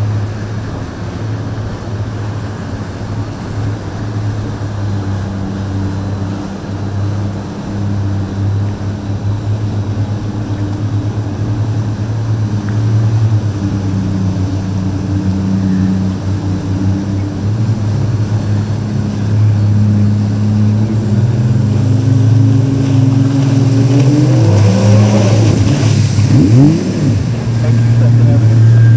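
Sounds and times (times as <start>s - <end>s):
motorboat engine droning and revving: 0.0s - 28.9s.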